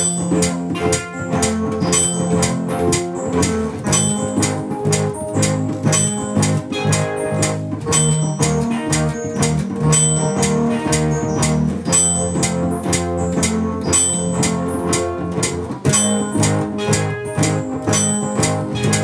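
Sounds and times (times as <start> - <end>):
guitar notes: 0.0 - 19.0
steady drum beat: 0.0 - 19.0.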